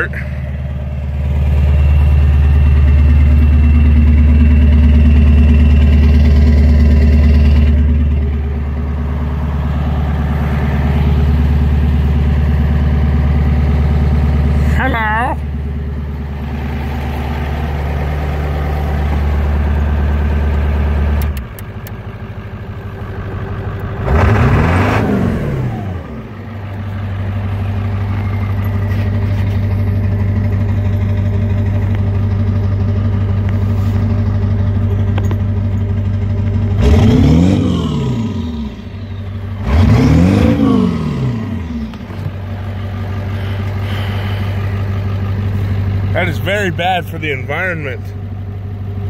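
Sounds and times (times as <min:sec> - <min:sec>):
engine revving: 0:00.0 - 0:21.6, 0:23.8 - 0:32.5, 0:36.5 - 0:48.1
diesel engine running: 0:00.0 - 0:49.0.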